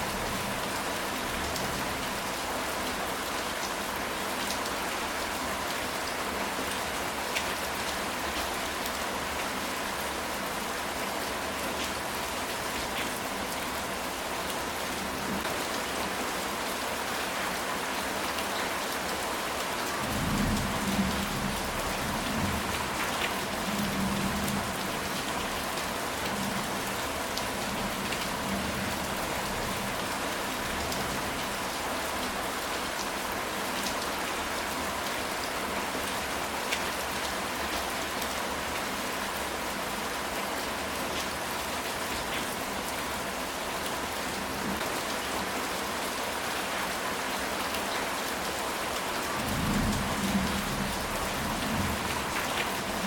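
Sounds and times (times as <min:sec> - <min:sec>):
rain on a tile roof: 0:00.0 - 0:53.0.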